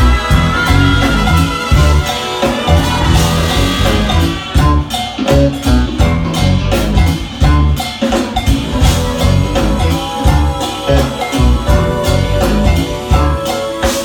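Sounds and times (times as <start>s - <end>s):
drum kit: 0.0s - 14.0s
heavy bass line: 0.0s - 14.0s
jazz fusion band with horns: 0.0s - 14.0s.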